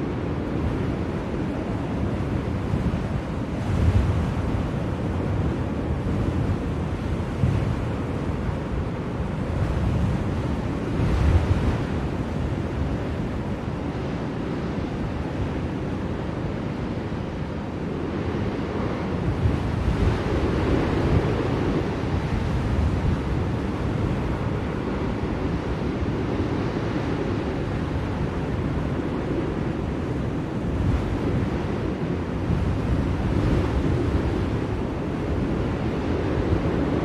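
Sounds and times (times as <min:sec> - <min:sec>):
blizzard wind blowing: 0:00.0 - 0:37.0.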